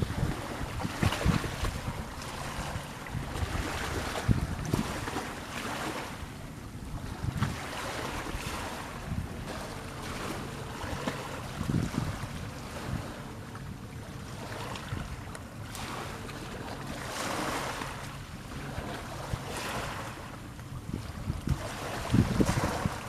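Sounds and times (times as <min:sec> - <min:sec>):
wind buffeting microphone: 0:00.0 - 0:15.8, 0:17.2 - 0:23.0
low boat engine hum: 0:00.0 - 0:23.0
sea water washing: 0:00.0 - 0:23.0.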